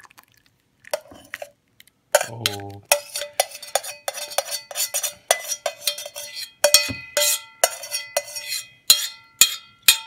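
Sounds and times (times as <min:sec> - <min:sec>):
utensil scraping metal saucepan: 0:00.9 - 0:10.0.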